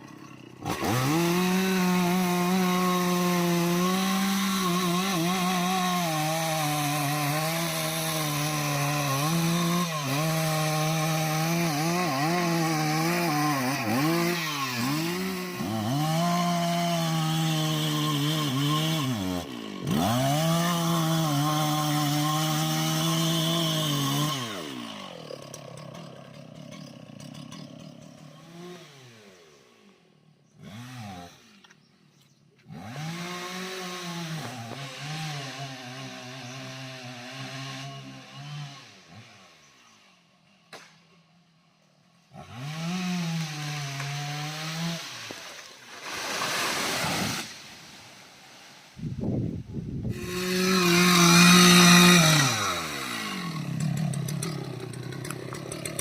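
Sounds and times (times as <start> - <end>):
chainsaw cutting wood: 0.0 - 41.2, 42.2 - 56.0.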